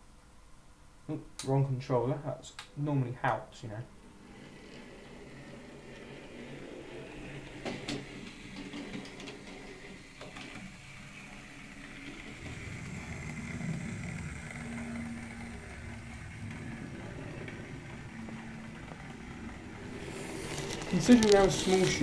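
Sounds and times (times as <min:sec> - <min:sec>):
model train wheels on rails: 0:04.0 - 0:22.0
small electric motor humming: 0:04.2 - 0:22.0.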